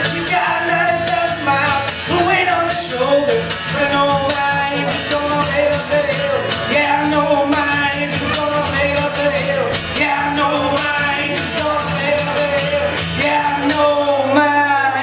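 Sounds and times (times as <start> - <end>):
acoustic guitar strumming: 0.0 - 15.0
man singing: 0.0 - 15.0.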